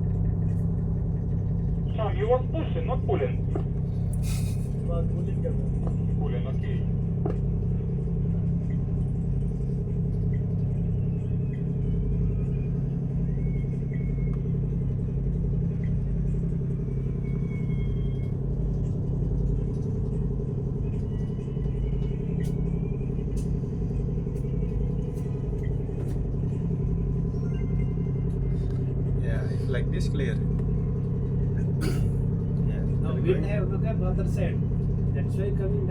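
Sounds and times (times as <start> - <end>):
ship engine drone: 0.0 - 35.9.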